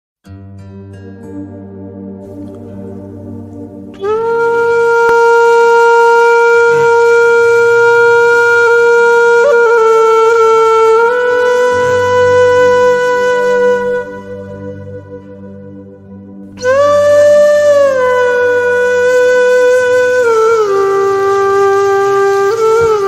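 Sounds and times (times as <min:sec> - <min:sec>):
low sustained backing: 0:00.5 - 0:23.0
held wind instrument note: 0:02.2 - 0:23.0.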